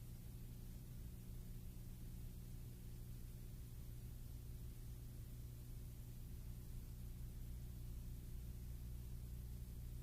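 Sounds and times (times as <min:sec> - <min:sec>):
low electrical hum: 0:00.0 - 0:10.0
soft hiss: 0:00.0 - 0:10.0.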